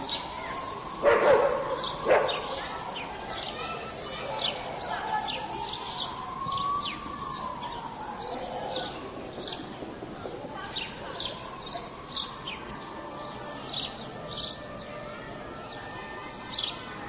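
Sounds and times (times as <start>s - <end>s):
birds chirping: 0.0s - 17.0s
steady outdoor hiss: 0.0s - 17.0s.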